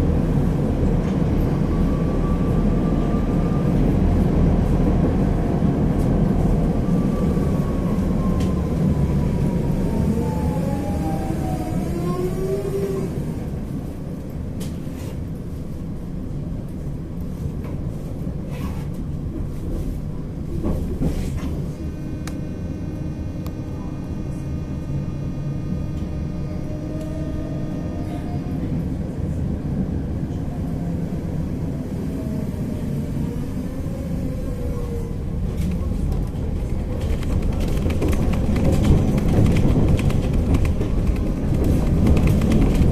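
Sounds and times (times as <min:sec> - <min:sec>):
tram wheels rumbling on track: 0:00.0 - 0:42.9.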